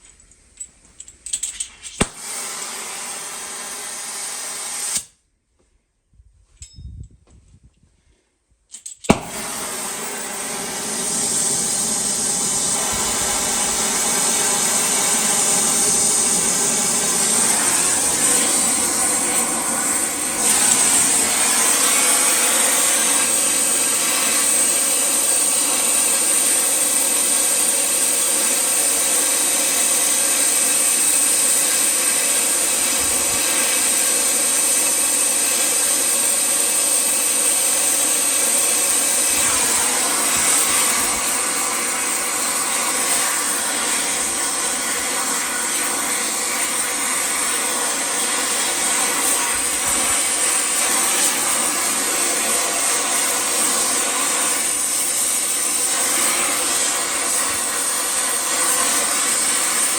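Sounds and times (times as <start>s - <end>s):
electric power tool whirring: 1.9s - 5.2s, 9.1s - 59.9s.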